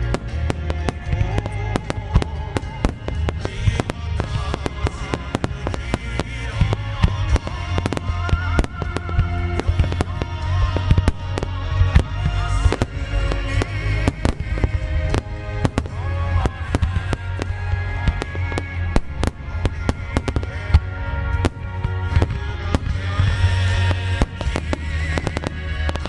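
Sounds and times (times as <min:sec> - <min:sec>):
deep rumble: 0:00.0 - 0:26.0
fireworks exploding: 0:00.0 - 0:26.0
music over loudspeakers: 0:00.0 - 0:26.0.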